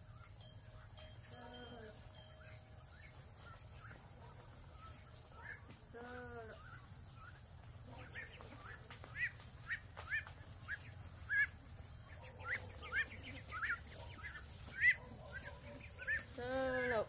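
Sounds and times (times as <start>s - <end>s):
poultry peeping: 0.0s - 17.0s.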